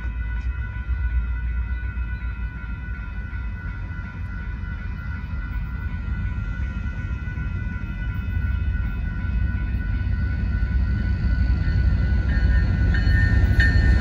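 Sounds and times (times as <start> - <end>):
railroad crossing bell ringing: 0.0 - 14.0
train rumble: 0.0 - 14.0.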